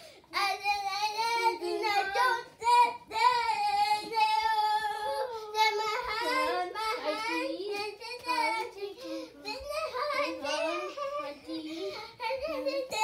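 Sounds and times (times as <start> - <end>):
child singing: 0.3 - 13.0.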